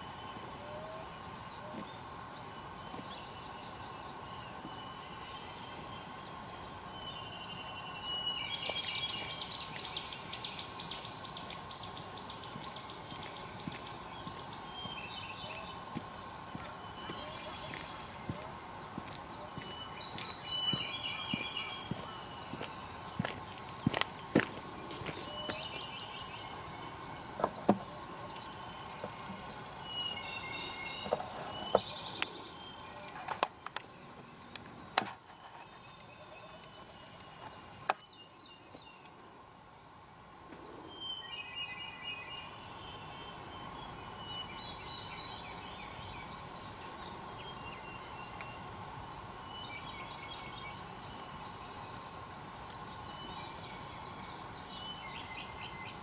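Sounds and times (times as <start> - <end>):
birds calling and chirping: 0.0 - 56.0.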